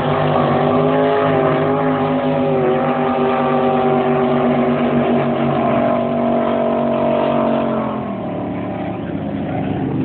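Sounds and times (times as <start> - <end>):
motorboat engine droning: 0.0 - 10.0.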